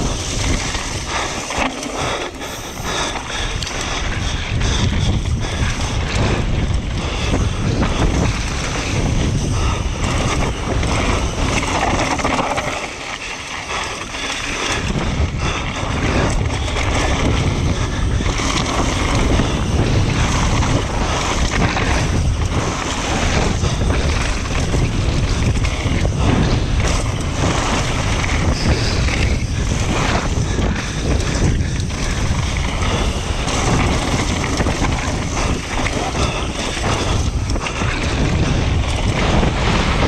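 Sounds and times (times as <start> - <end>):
tyres rolling over gravel: 0.0 - 4.2, 7.4 - 40.0
bike rattling and knocking: 0.0 - 40.0
wind rushing over microphone: 0.0 - 40.0.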